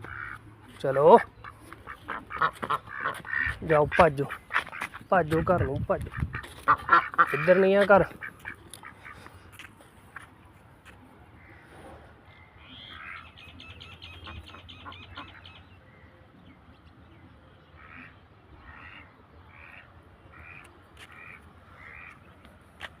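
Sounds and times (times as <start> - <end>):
ducks quacking: 0.0 - 10.3, 11.4 - 16.0, 17.6 - 23.0.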